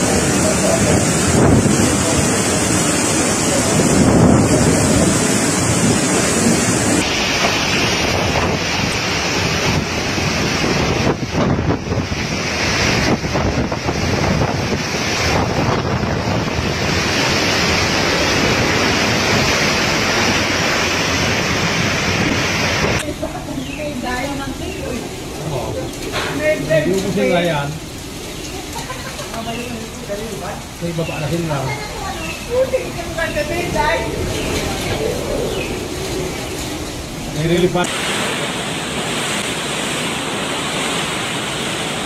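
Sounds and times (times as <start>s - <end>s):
heavy rain: 0.0s - 42.0s
strong storm wind: 0.0s - 42.0s.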